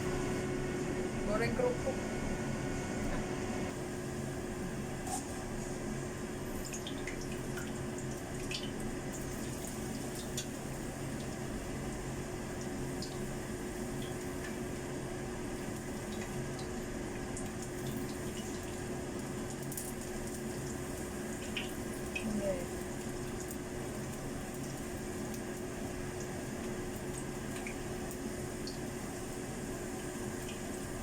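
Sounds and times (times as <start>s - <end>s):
crackers sizzling in hot oil: 2.2s - 31.0s.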